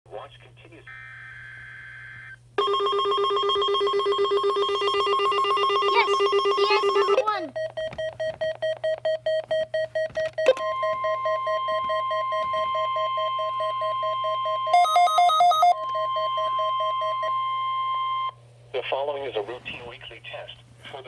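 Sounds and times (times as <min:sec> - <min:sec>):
steady warning tone: 0:00.9 - 0:18.4
electronic alarm beeping: 0:01.0 - 0:18.4.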